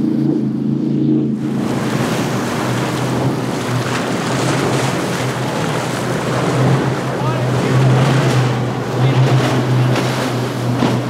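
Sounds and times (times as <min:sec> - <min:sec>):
boat hull spray rushing: 0:00.0 - 0:11.0
outboard motors droning: 0:00.0 - 0:11.0.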